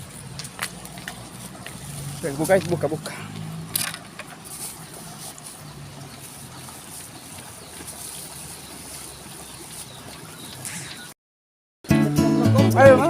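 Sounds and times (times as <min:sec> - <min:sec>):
water flowing: 0:00.0 - 0:11.1.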